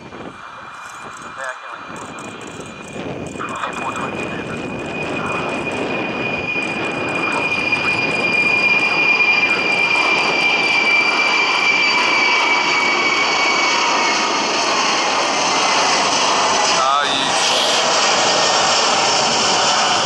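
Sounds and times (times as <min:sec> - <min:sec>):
jet roar with high whine: 0:00.0 - 0:20.0.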